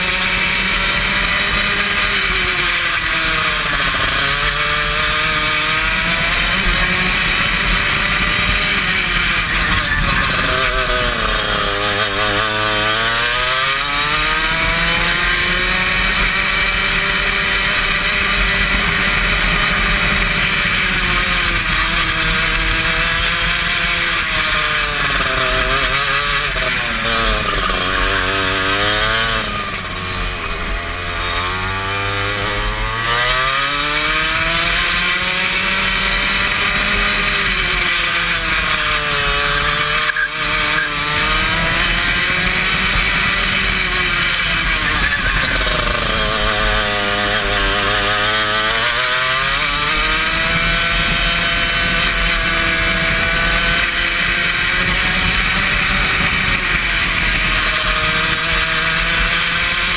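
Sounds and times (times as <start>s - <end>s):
kart engine at high revs: 0.0s - 59.9s.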